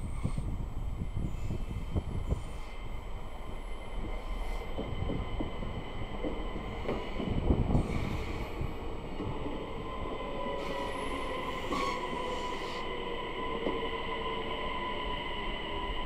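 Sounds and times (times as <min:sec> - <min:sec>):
train hiss: 0:00.0 - 0:04.9, 0:06.6 - 0:09.0, 0:10.4 - 0:15.9
train wheels squealing on rails: 0:00.0 - 0:16.0.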